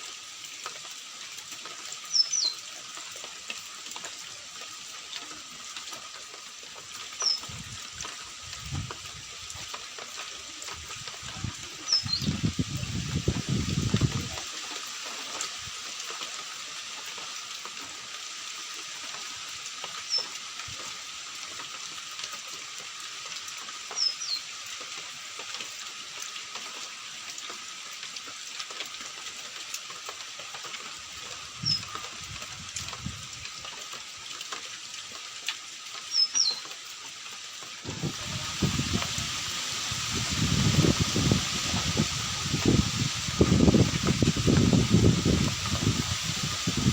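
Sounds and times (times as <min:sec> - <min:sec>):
hiss of water: 0:00.0 - 0:46.9.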